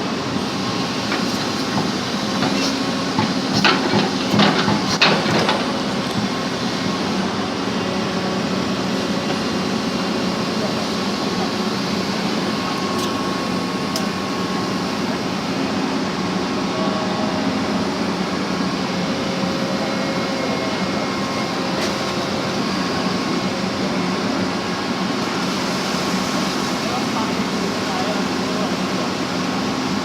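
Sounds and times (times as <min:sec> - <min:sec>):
backhoe engine running: 0:00.0 - 0:30.0.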